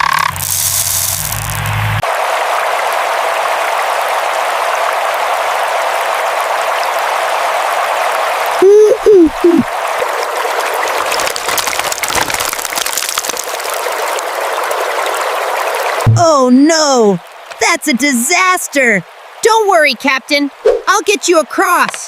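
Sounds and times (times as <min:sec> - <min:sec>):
stream water running: 0:00.3 - 0:21.9.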